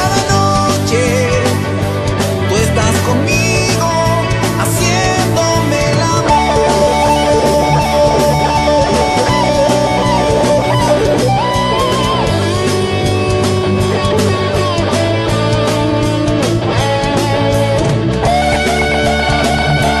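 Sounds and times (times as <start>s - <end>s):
bass guitar: 0.0s - 20.0s
lead guitar melody: 0.0s - 20.0s
rhythm guitar: 0.0s - 20.0s.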